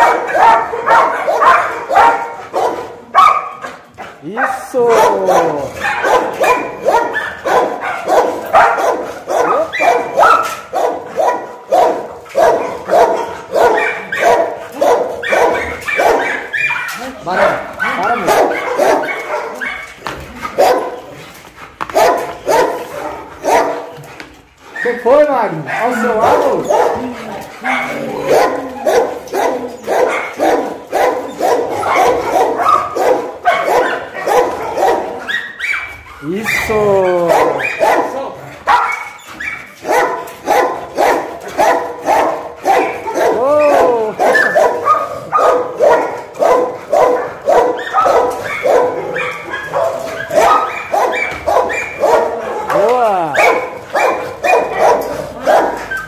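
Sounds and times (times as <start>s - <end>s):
dogs barking: 0.0s - 56.0s.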